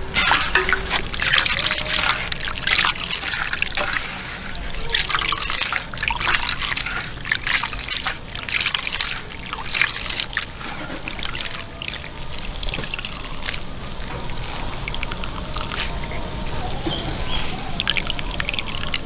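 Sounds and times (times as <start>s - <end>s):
hands squeezing wet vegetables: 0.0s - 19.0s
water splashing in metal basin: 0.0s - 19.0s
water streaming into basin: 0.0s - 19.0s.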